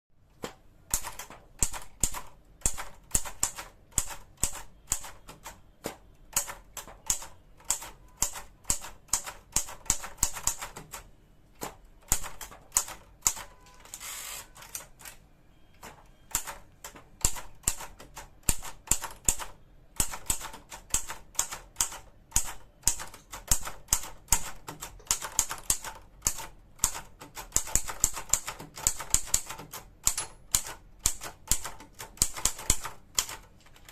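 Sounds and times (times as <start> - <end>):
typewriter key strikes: 0.9 - 11.0, 15.8 - 33.5.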